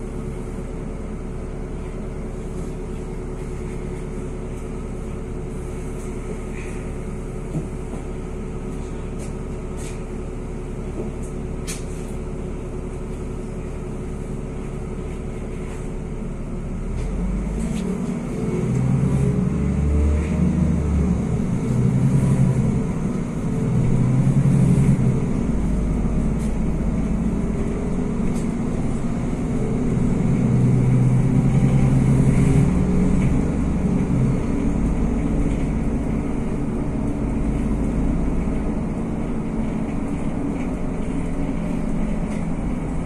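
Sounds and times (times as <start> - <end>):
bus engine idling and pulling away: 0.0 - 43.0.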